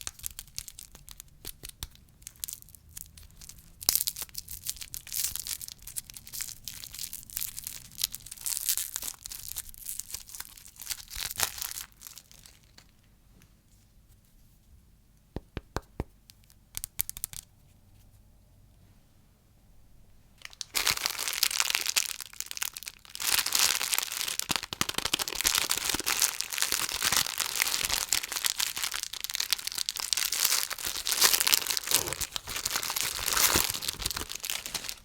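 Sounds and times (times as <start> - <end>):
plastic wrapper crinkling: 0.0 - 13.1, 16.7 - 17.4, 20.4 - 35.0.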